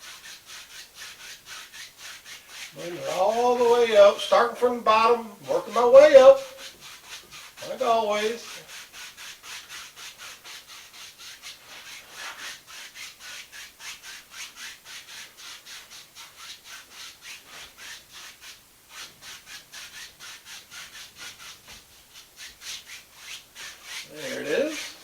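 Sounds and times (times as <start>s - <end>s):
paintbrush scrubbing canvas: 0.0s - 25.0s.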